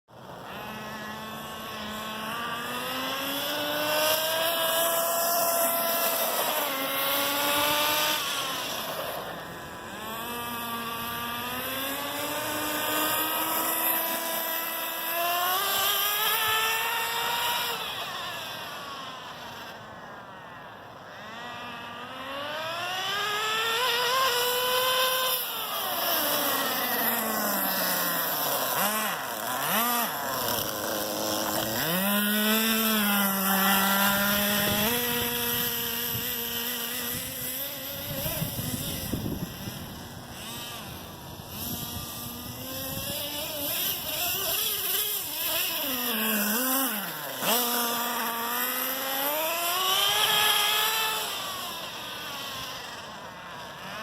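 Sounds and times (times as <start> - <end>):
small engine revving: 0.1 - 54.0.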